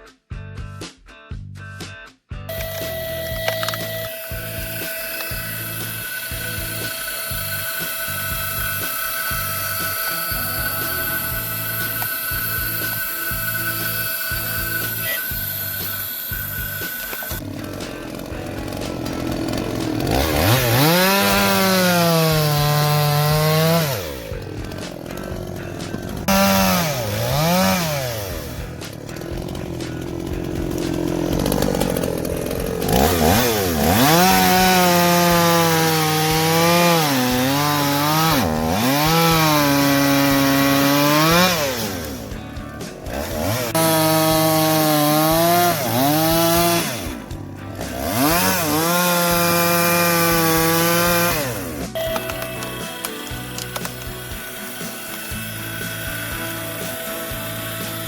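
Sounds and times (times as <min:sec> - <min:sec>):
chainsaw cutting wood: 0:02.5 - 0:58.0.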